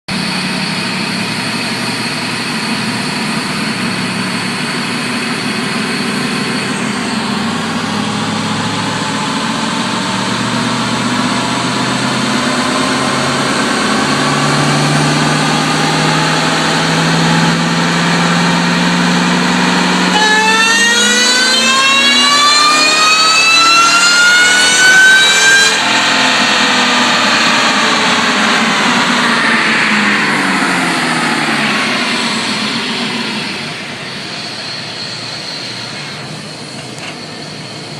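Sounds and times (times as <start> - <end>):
pickup engine revving: 0.1 - 37.0
loud high whine: 0.1 - 37.9.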